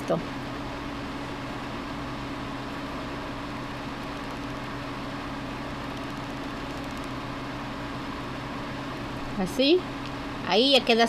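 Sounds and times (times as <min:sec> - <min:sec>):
appliance motor hum and hiss: 0:00.0 - 0:11.0.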